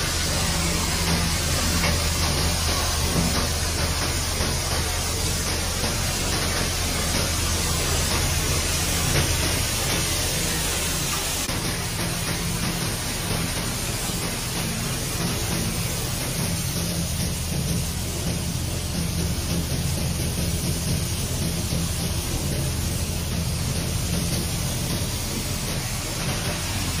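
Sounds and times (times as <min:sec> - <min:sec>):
hammer mill humming: 0:00.0 - 0:27.0.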